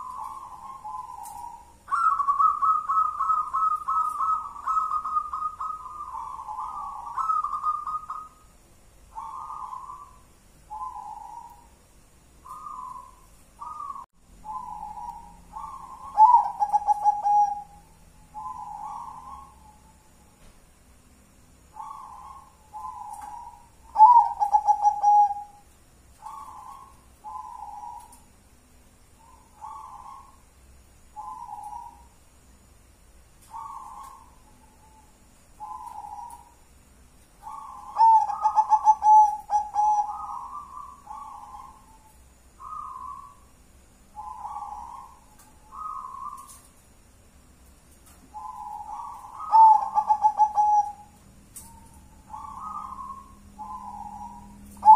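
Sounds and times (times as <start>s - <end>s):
dove cooing: 0.0s - 8.4s, 9.1s - 11.8s, 12.4s - 20.2s, 21.7s - 28.2s, 29.2s - 30.5s, 31.2s - 32.2s, 33.4s - 36.6s, 37.4s - 43.5s, 44.2s - 46.7s, 48.3s - 54.9s.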